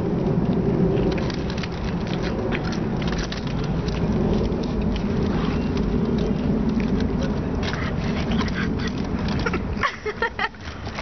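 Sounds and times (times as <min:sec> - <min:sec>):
low rumble: 0:00.0 - 0:11.0
crunching snacks: 0:00.2 - 0:11.0
foil bags rustling: 0:01.0 - 0:11.0.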